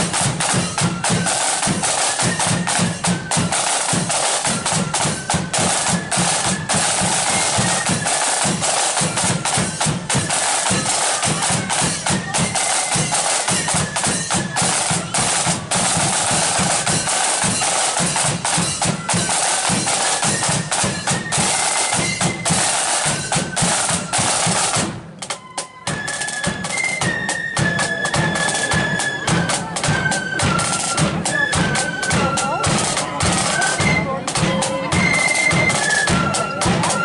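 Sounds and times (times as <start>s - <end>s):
flutes playing a melody: 0.0s - 37.0s
snare and bass drums: 0.0s - 37.0s.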